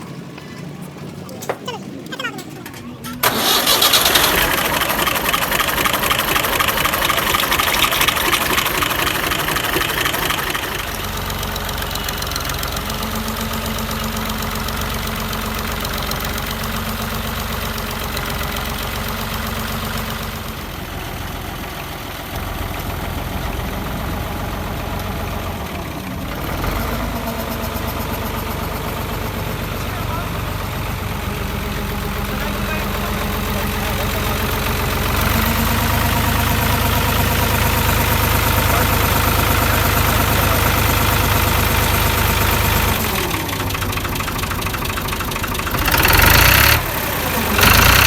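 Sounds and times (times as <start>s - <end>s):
engine running: 0.0s - 48.0s.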